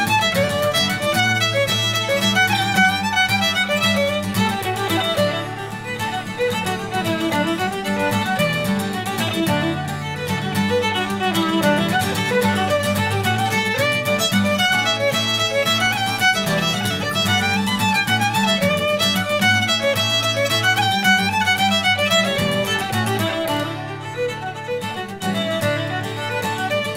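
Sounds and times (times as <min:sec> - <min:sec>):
fiddle tune with accompaniment: 0:00.0 - 0:26.9.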